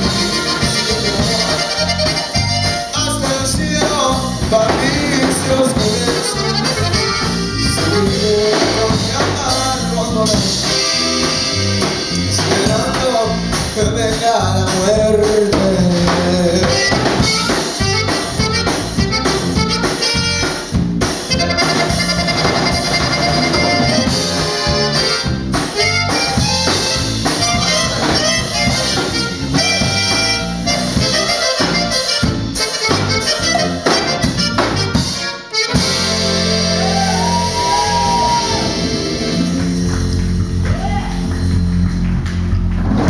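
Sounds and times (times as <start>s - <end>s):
accordion melody: 0.0s - 40.7s
live band playing: 0.0s - 43.0s.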